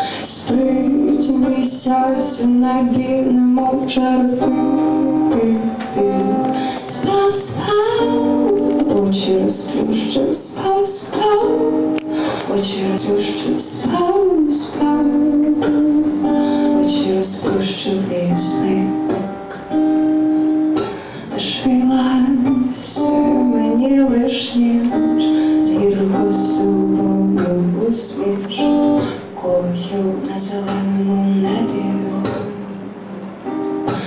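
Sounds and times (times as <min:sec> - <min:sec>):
acoustic guitar: 0:00.0 - 0:34.0
woman singing slow song: 0:00.0 - 0:34.0.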